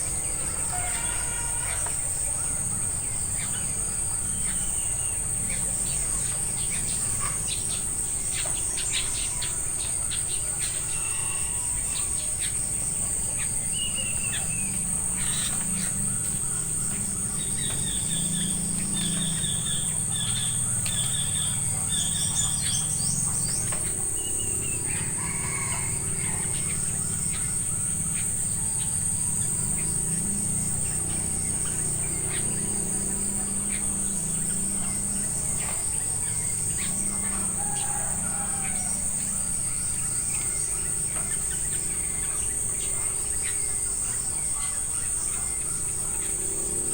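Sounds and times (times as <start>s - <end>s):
birds chirping: 0.0s - 46.9s
insects droning: 0.0s - 46.9s.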